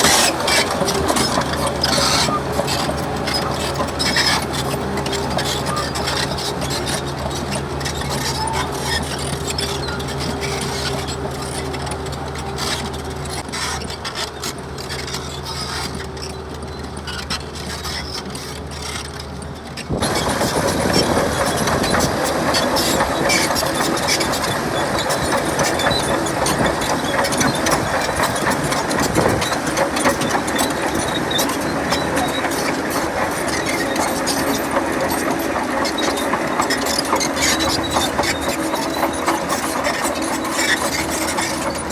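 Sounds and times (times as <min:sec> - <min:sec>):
diesel machinery engine drone: 0:00.0 - 0:41.9.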